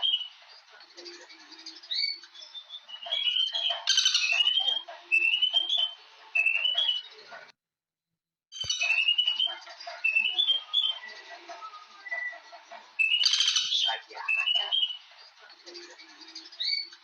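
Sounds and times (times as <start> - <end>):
bird whistling and chirping: 0.0 - 7.2, 8.6 - 17.0.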